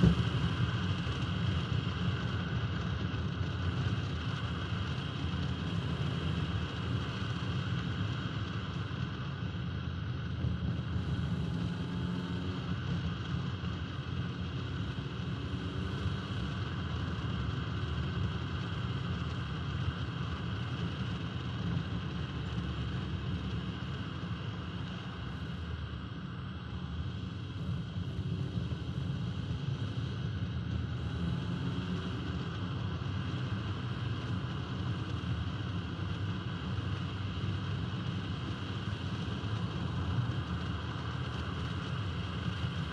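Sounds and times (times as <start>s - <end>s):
car engine running: 0.0s - 42.9s
tyre and road noise: 0.0s - 42.9s.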